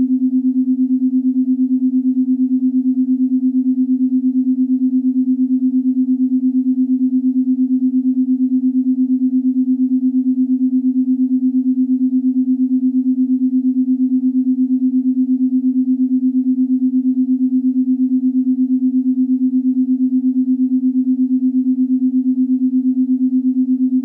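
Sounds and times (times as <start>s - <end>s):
pulsing low synthesized hum: 0.0s - 24.0s.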